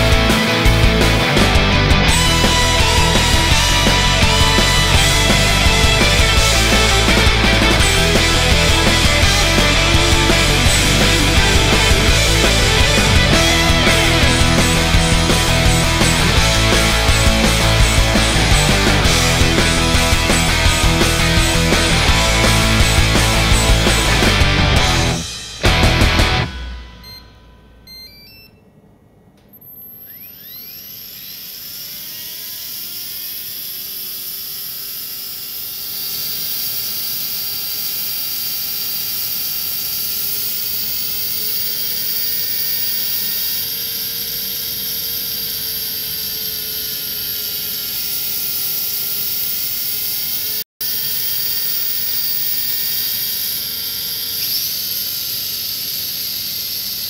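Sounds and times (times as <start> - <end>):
gyro flywheel electric whine: 0.0 - 57.0.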